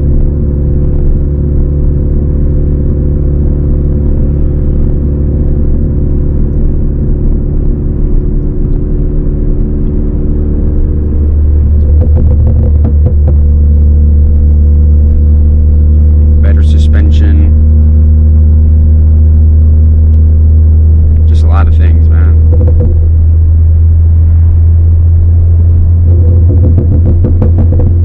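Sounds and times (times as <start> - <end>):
car engine droning at steady revs: 0.0 - 28.0.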